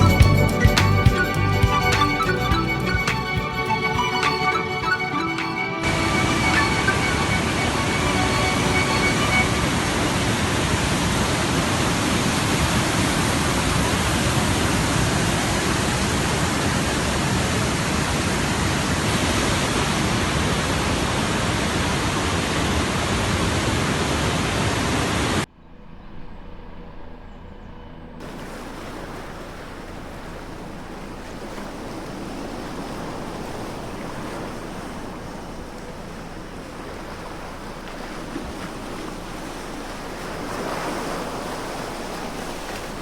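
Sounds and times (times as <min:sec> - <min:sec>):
quiet steady rush: 0:00.0 - 0:19.0, 0:25.5 - 0:43.0
waterfall roaring: 0:01.1 - 0:25.4, 0:28.2 - 0:43.0.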